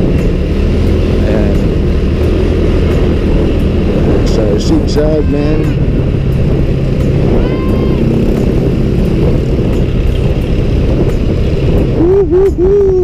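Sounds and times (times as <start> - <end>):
scooter engine running: 0.0 - 12.8
wind rumble on microphone: 0.0 - 13.0.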